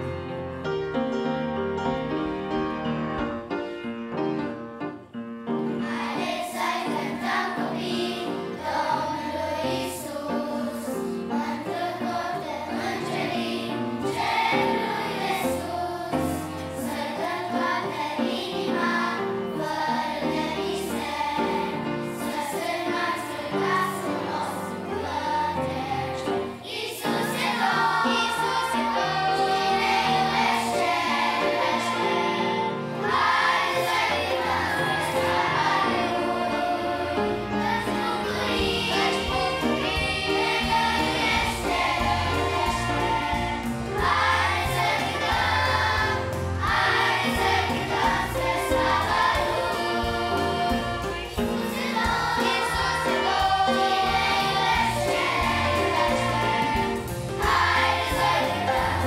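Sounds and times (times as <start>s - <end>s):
children's choir singing: 0.0s - 59.0s
piano: 0.0s - 59.0s.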